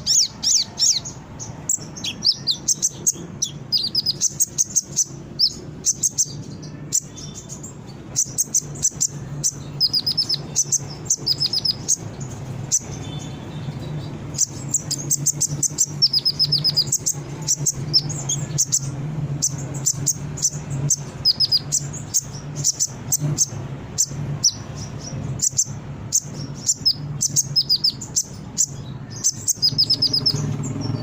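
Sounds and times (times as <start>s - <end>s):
bird singing high chirps: 0.0s - 31.0s.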